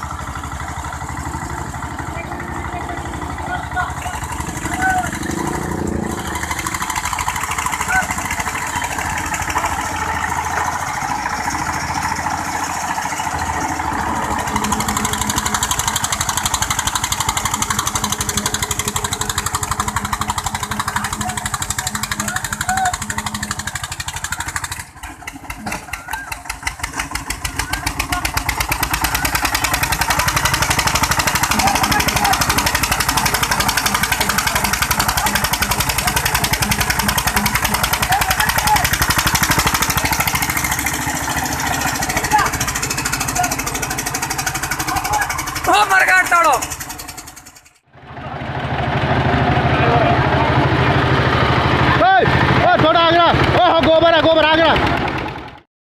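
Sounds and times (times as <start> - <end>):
tractor engines chugging under load: 0.0 - 55.7.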